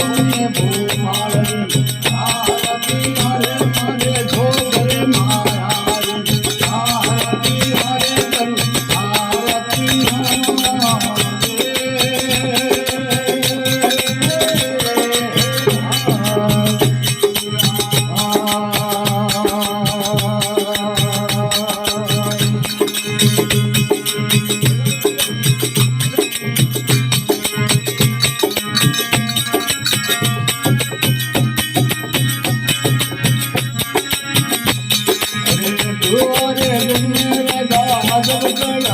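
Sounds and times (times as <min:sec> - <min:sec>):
jingling percussion: 0:00.0 - 0:38.9
wavering melody: 0:00.0 - 0:38.9.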